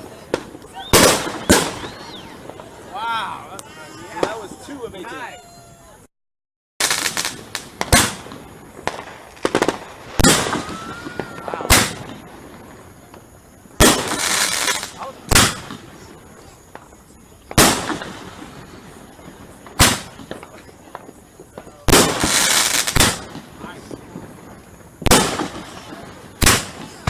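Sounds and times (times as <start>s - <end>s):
fireworks banging: 0.0s - 5.5s, 6.8s - 27.0s
fireworks crackling: 0.0s - 6.0s, 6.8s - 27.0s.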